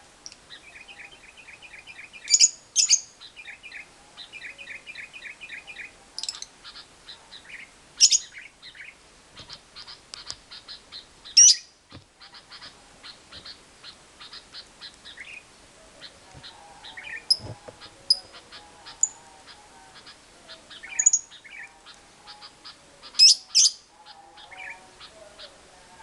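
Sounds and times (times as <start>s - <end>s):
lovebird chirping chatter: 0.5s - 25.6s.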